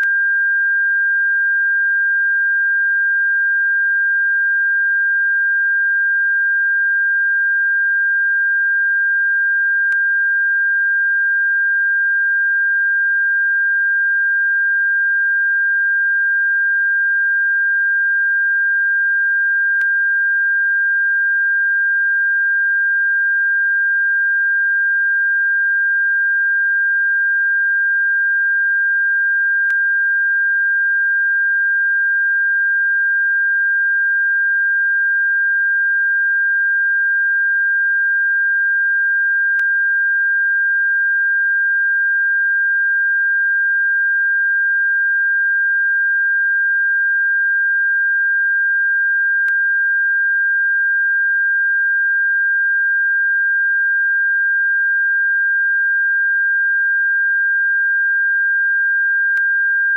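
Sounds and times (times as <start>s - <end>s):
high-pitched electronic sine tone: 0.0s - 59.9s.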